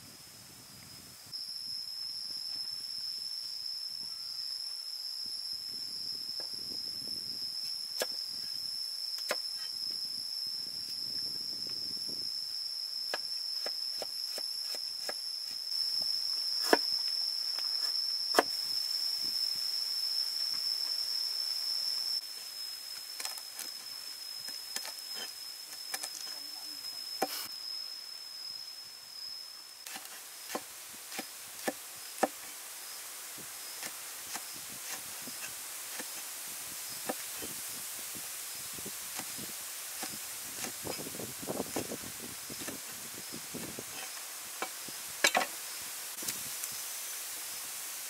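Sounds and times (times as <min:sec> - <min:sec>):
high insect whine: 0:00.0 - 0:48.0.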